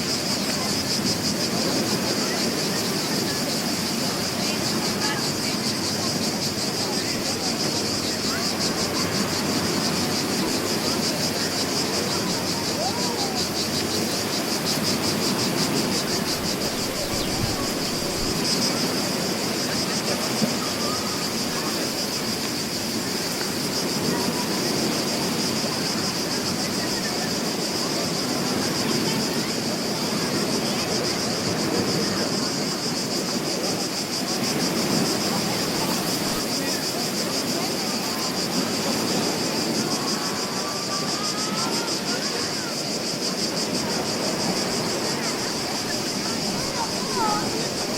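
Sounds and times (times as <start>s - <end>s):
cicadas droning: 0.0s - 47.9s
sea waves washing on shore: 0.0s - 47.9s.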